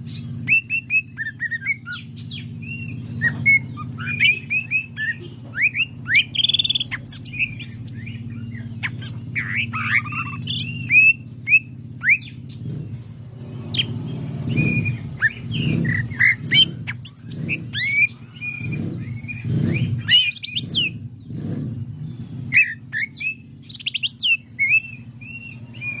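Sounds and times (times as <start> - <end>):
bird singing: 0.0 - 26.0.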